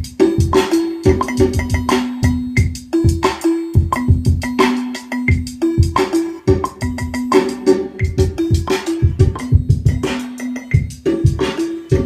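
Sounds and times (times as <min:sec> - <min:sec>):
sharp clicky percussion hits: 0:00.0 - 0:12.0.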